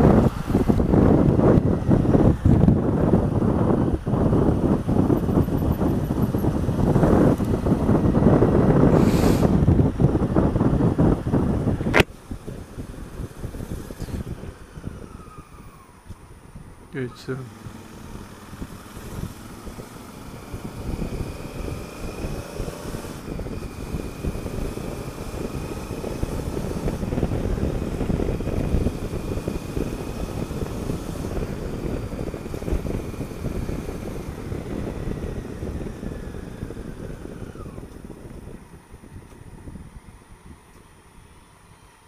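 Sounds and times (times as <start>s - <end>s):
motorcycle engine running: 0.0s - 41.3s
wind rush over microphone: 0.0s - 42.0s.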